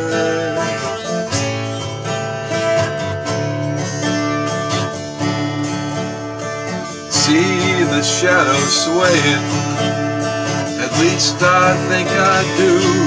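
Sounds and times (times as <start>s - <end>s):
acoustic guitar playing chords: 0.0s - 13.0s.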